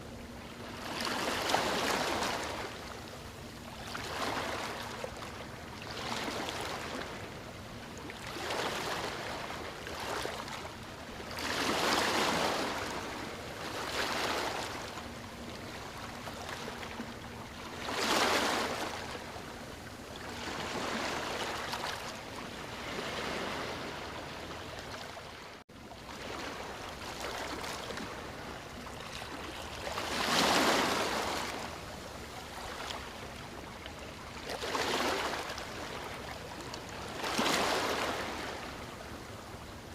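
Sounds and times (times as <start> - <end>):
waves breaking on beach: 0.6 - 3.1, 3.8 - 5.2, 5.8 - 7.2, 8.1 - 16.9, 17.6 - 19.6, 20.2 - 39.9.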